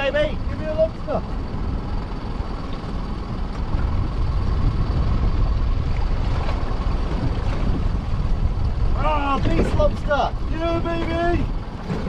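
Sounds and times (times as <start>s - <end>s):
boat motor rumbling: 0.0s - 12.0s
water around hull: 0.0s - 12.0s.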